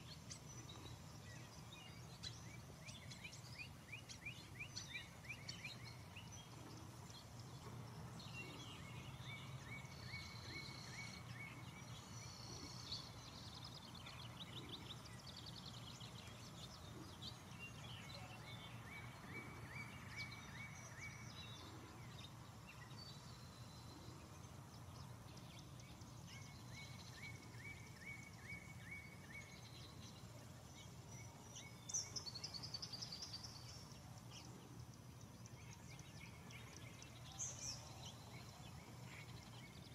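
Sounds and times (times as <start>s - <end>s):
low steady hum: 0.0s - 39.9s
songbird trill: 0.0s - 39.9s.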